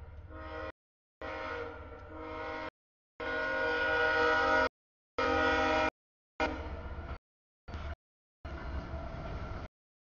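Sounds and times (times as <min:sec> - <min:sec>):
freight train rolling past: 0:00.0 - 0:09.7.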